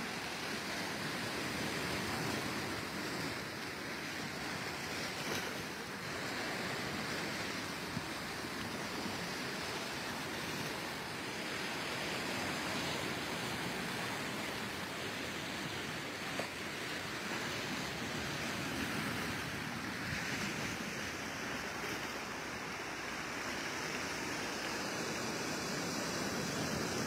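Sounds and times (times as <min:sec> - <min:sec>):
small waves breaking: 0:00.0 - 0:27.0.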